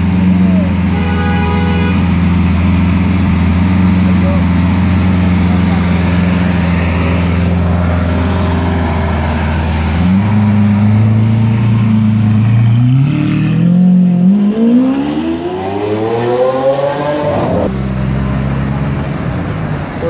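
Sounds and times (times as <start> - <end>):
car engine revving and accelerating: 2.4 - 19.4.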